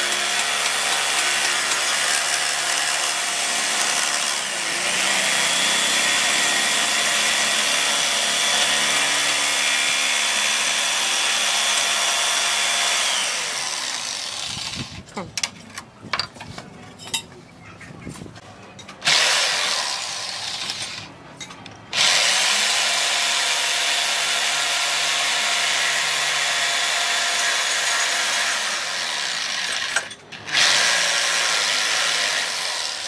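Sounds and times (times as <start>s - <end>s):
jigsaw cutting wood: 0.0s - 15.0s, 19.0s - 21.0s, 21.9s - 33.0s.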